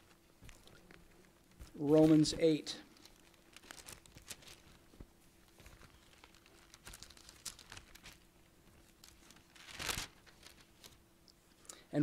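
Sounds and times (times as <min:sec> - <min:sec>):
thin pages rustling: 0:00.0 - 0:11.1.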